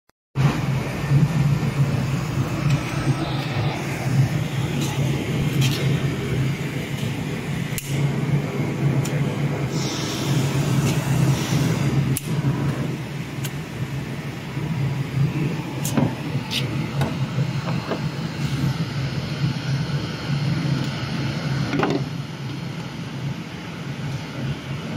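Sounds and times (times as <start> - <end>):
low machine hum: 0.4 - 24.9.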